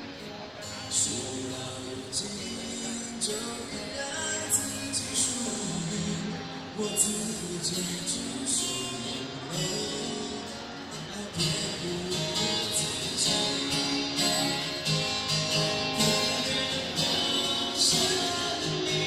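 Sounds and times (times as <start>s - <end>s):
pop ballad led by guitar: 0.0s - 19.0s.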